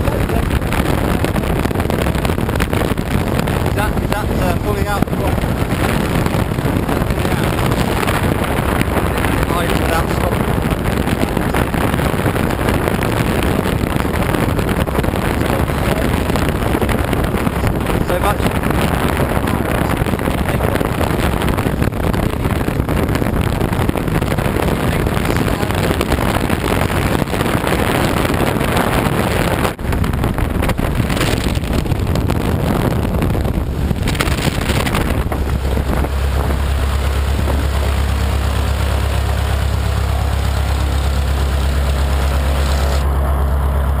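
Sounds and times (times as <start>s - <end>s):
aircraft engine running: 0.0s - 44.0s
propeller wind buffeting microphone: 0.0s - 44.0s.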